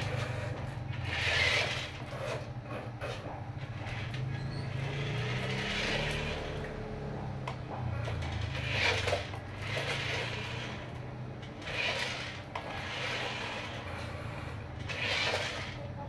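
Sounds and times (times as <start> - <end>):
toy motor whirring: 0.0 - 16.0.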